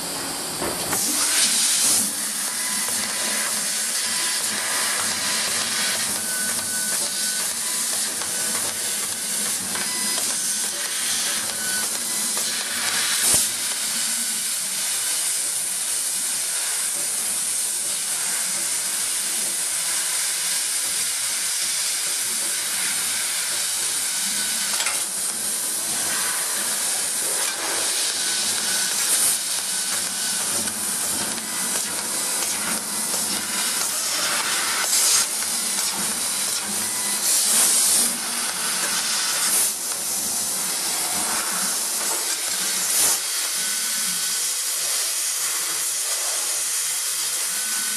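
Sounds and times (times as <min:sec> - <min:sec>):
laser cutter gas jet hiss: 0:00.0 - 0:47.9.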